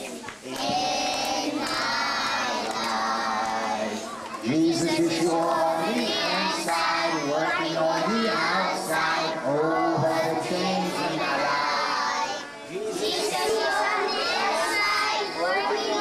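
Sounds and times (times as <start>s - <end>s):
children singing: 0.0s - 16.0s.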